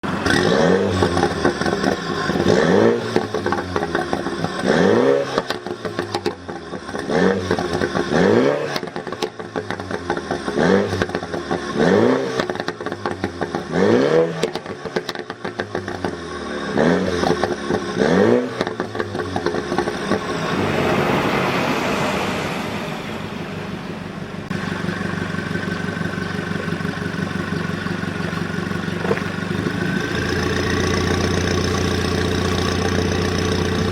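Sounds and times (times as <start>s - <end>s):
car engine revving: 0.0s - 33.9s
exhaust pops and crackles: 0.2s - 16.3s, 17.2s - 20.4s, 24.5s - 33.9s.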